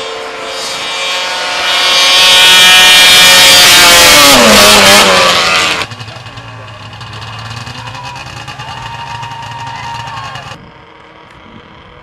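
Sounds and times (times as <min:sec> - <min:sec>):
snowmobile engine at high revs: 0:00.0 - 0:12.0.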